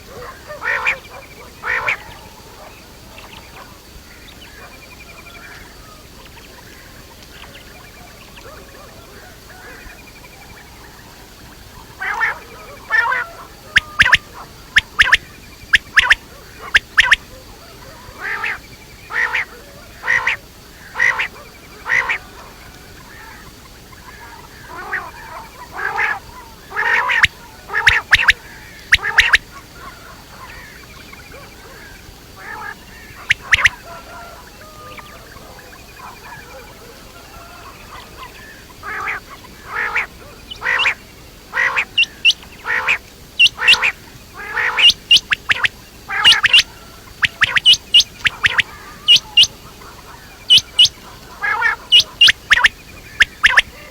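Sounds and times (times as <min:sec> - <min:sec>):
quail calling: 0:00.0 - 0:53.9.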